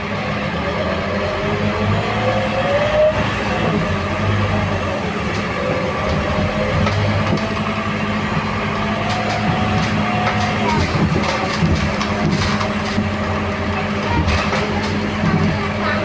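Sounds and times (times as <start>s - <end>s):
bus engine low drone: 0.0s - 16.0s.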